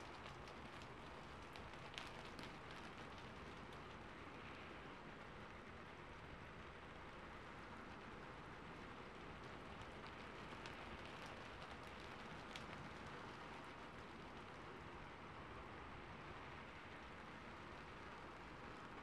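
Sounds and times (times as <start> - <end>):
faint rain: 0.0 - 19.0.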